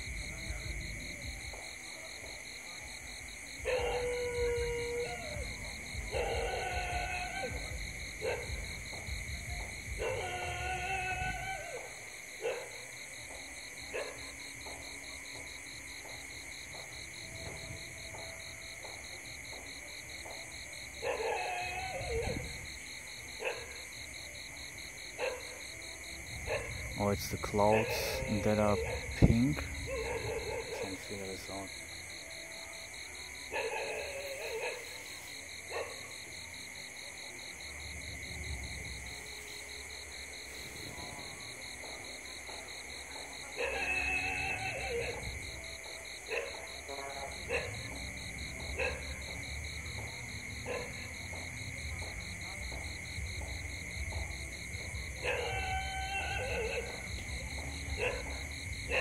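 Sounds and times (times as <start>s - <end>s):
crickets trilling: 0.0s - 59.0s
high insect drone: 0.0s - 59.0s.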